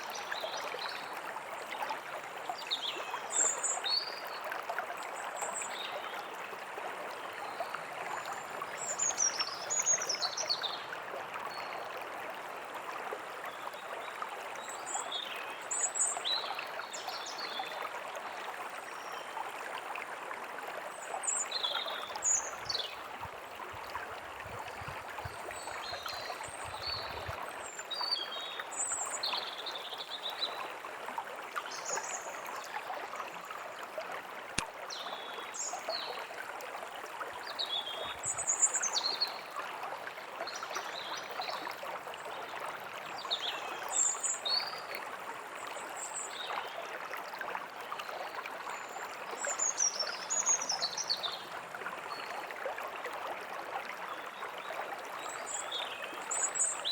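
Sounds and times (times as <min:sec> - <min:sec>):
stream running: 0:00.0 - 0:56.9.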